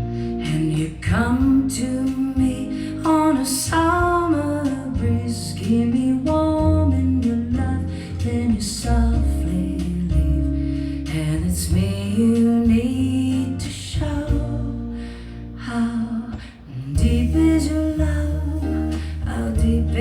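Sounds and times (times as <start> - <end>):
sung ballad over loudspeakers: 0.0 - 20.0.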